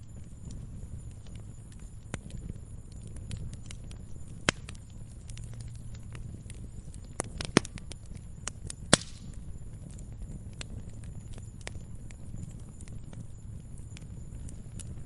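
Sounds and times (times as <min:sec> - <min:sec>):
flames rumbling: 0:00.0 - 0:15.0
wood fire pops and snaps: 0:00.0 - 0:15.0.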